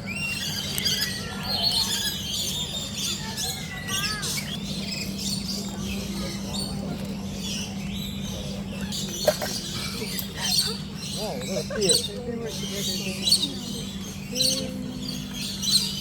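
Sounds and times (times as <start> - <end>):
parrots screeching and chattering: 0.0 - 16.0.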